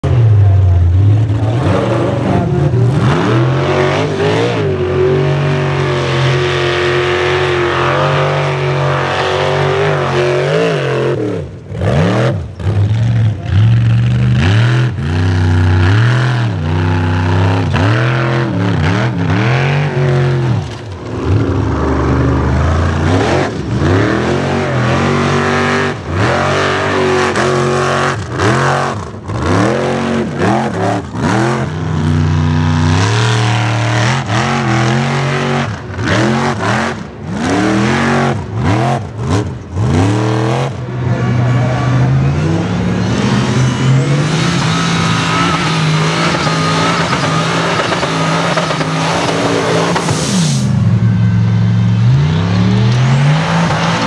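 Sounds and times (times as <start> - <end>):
buggy engines revving hard: 0.0 - 54.0.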